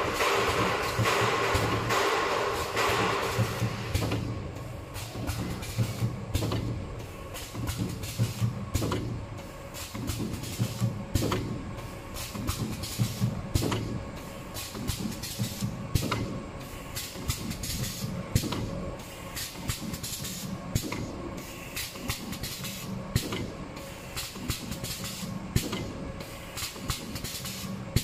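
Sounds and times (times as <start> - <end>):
machine clicks and knocks: 0.0 - 6.8, 7.4 - 9.2, 9.8 - 11.6, 12.2 - 14.0, 14.6 - 16.4, 17.0 - 18.8, 19.4 - 21.2, 21.8 - 23.6, 24.2 - 28.0.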